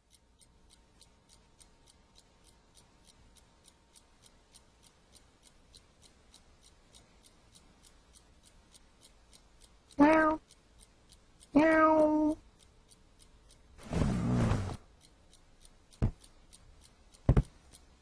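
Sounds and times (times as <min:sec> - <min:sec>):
low room hiss: 0:00.0 - 0:18.0
mechanical ticking: 0:00.0 - 0:18.0.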